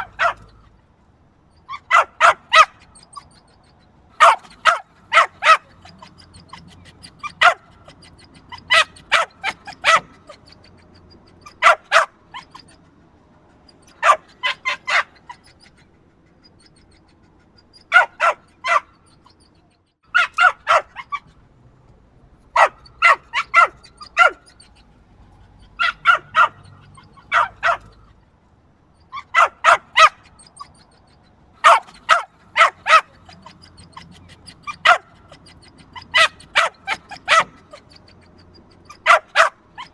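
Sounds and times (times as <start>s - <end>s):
small dog yapping: 0.0s - 0.7s, 1.6s - 12.9s, 13.6s - 21.4s, 22.5s - 28.2s, 29.0s - 39.9s.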